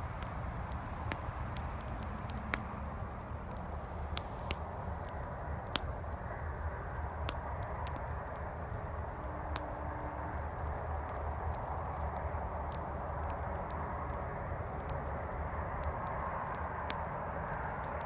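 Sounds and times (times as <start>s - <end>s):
campfire crackling and popping: 0.0s - 18.0s
highway traffic rumble: 0.0s - 18.0s.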